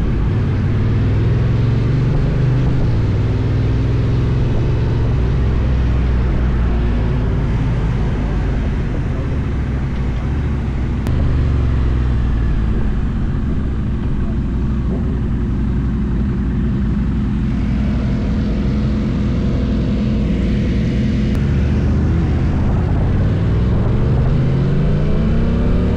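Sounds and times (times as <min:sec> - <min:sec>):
motorcycle engine running: 0:00.0 - 0:25.9
wind and road noise: 0:00.0 - 0:25.9.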